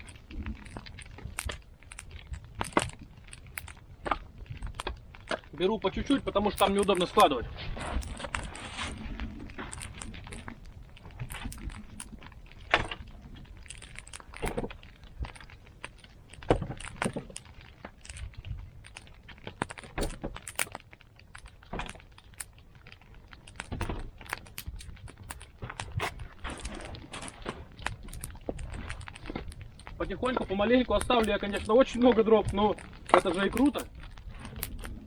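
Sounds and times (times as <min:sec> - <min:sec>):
wooden logs knocking: 0:00.0 - 0:35.0.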